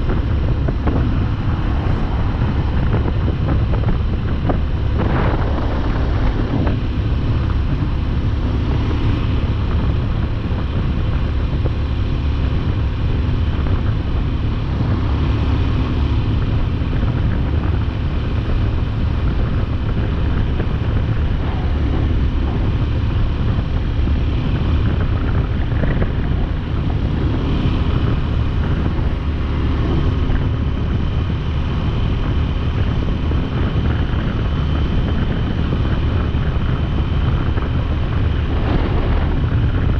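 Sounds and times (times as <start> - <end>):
motorcycle cruising: 0.0 - 39.9
wind on microphone: 0.0 - 39.9.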